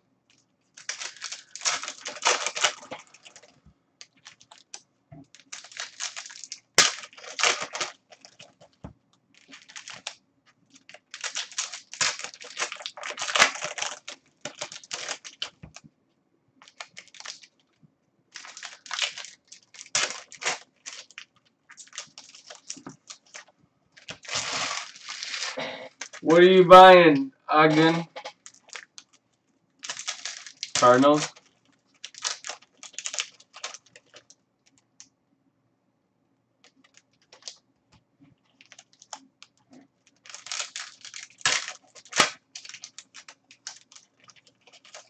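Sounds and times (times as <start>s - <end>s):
foil wrappers crinkling and tearing: 0.7s - 15.8s, 16.6s - 26.2s, 28.2s - 29.2s, 29.8s - 34.8s, 36.6s - 37.6s, 38.5s - 45.0s.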